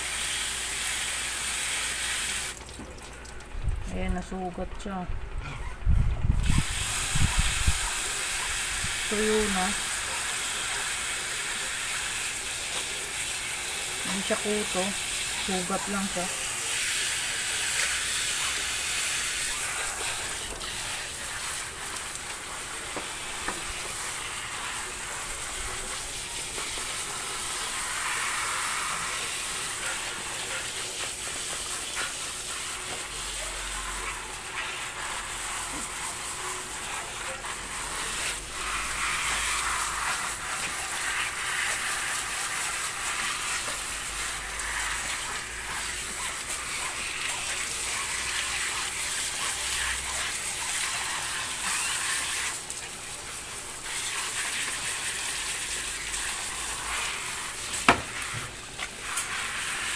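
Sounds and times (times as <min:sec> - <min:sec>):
water hissing from hose nozzle: 0:00.0 - 0:02.7, 0:06.4 - 0:59.9.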